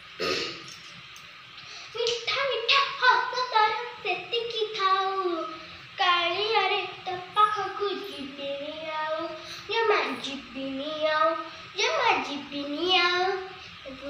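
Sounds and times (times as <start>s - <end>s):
girl singing unaccompanied: 2.0s - 14.0s.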